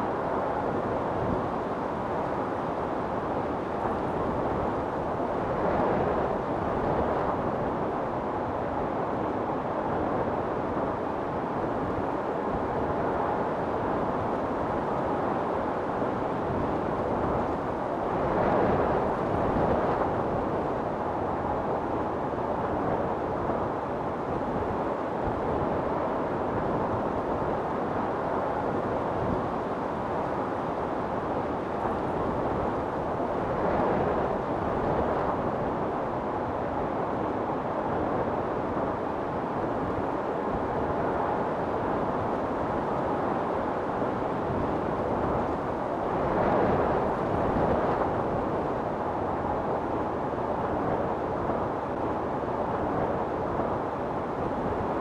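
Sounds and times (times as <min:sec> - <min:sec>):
wind storm blowing: 0:00.0 - 0:55.0.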